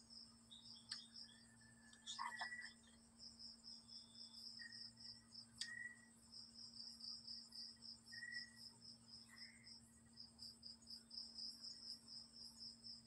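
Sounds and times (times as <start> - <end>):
crickets chirping: 0.0 - 13.0
faint low hum: 0.0 - 13.0.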